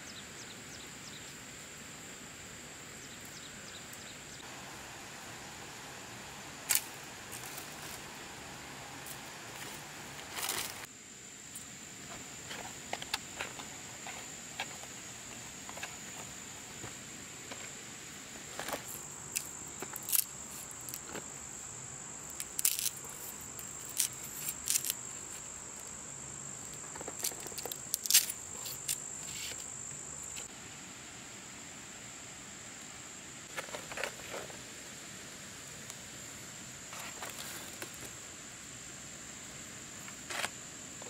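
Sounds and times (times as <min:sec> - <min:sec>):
insects whining: 0:00.0 - 0:41.0.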